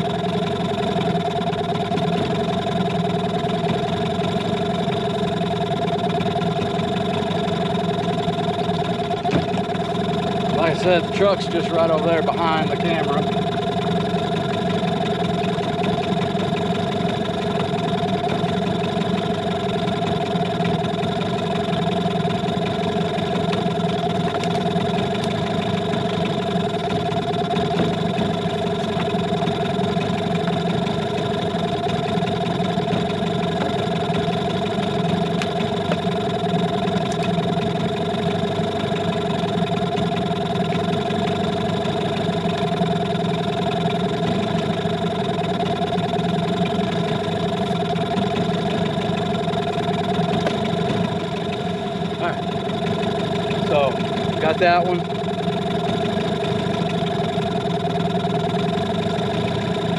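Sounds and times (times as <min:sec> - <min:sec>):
boat motor running: 0:00.0 - 0:59.9.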